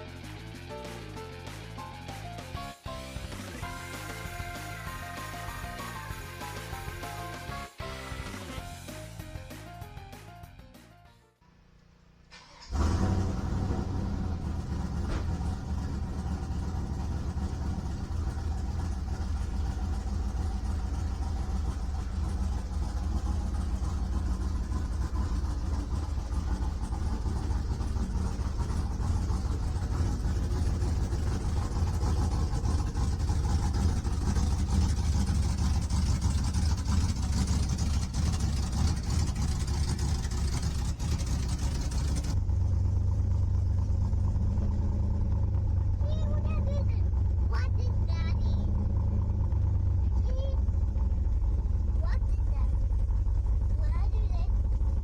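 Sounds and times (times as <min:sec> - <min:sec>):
pickup engine and road rumble: 0:00.0 - 0:09.8, 0:11.5 - 0:55.0.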